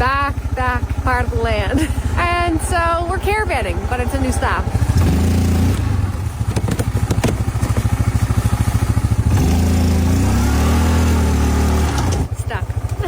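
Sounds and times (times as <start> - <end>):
atv engine chugging and revving: 0.0 - 13.0.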